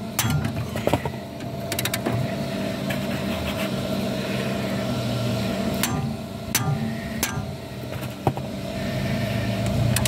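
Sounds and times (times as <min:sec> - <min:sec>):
engine-like drone: 0:00.0 - 0:10.0.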